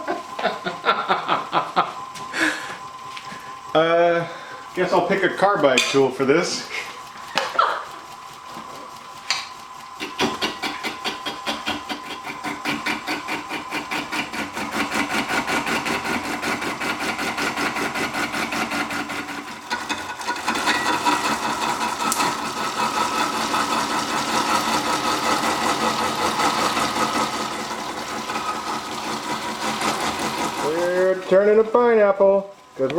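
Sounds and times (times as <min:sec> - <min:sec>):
lathe tool knocking on fruit: 0:04.8 - 0:31.5.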